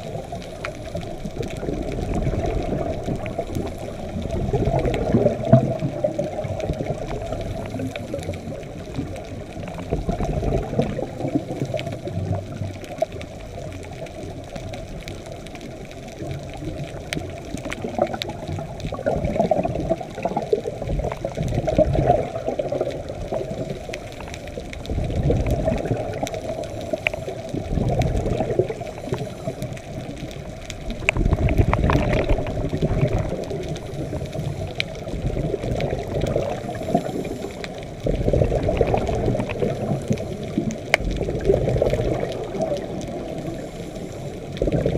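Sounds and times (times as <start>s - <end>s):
faint clicks: 0.0s - 44.9s
underwater exhaust bubbles rushing: 0.0s - 44.9s.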